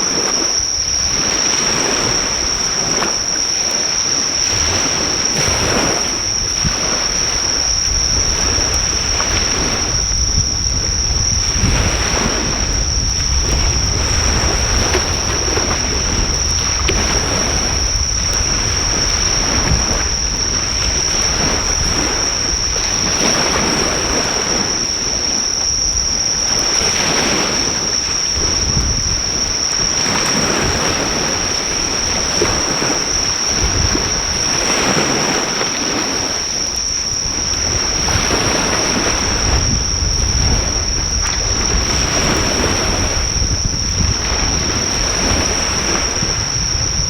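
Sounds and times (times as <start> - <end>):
high-pitched insect trill: 0.0 - 47.0
surf washing onto shore: 0.0 - 47.0
wind rumbling on microphone: 0.0 - 47.0.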